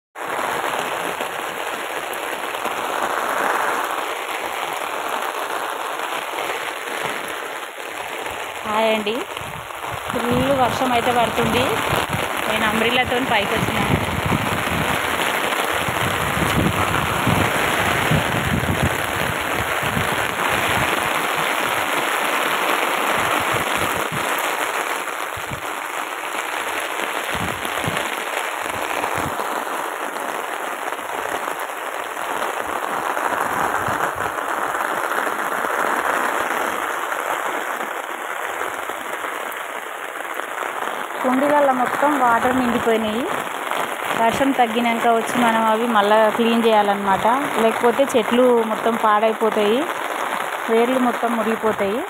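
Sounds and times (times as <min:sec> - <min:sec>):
heavy rain pouring: 0:00.2 - 0:52.0
raindrops hitting pots and leaves: 0:00.2 - 0:52.0.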